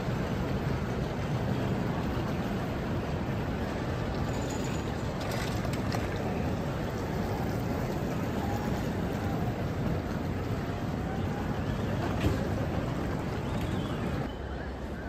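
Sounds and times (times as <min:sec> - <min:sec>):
terminal hall rumble and hiss: 0:00.0 - 0:15.0.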